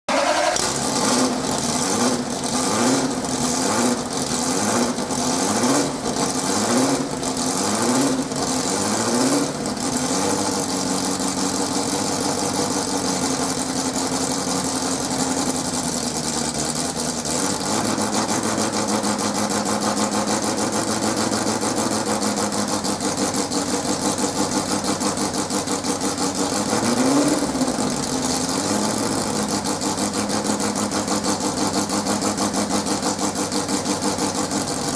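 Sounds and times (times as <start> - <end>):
engine revving and idling: 0.1 - 34.9.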